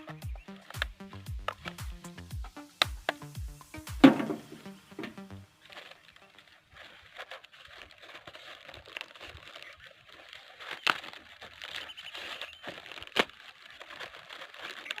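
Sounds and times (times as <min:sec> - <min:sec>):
rustling crinkling handling noise: 0:00.0 - 0:15.0.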